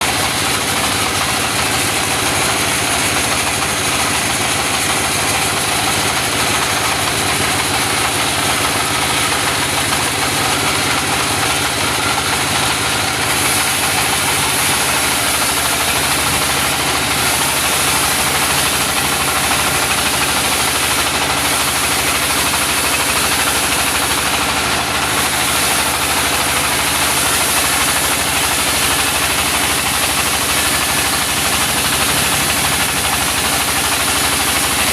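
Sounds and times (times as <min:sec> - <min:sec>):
portable sawmill sawing a log: 0:00.0 - 0:34.9.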